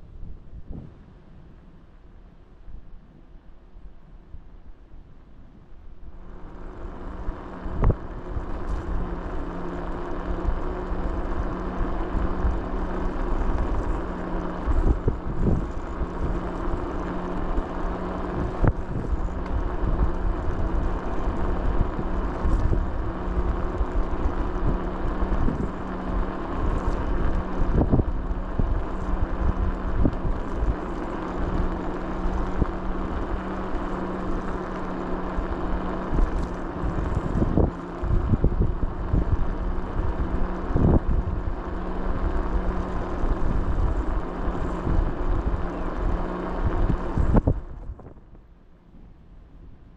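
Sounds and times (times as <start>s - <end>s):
vehicle engine running: 5.9s - 49.9s.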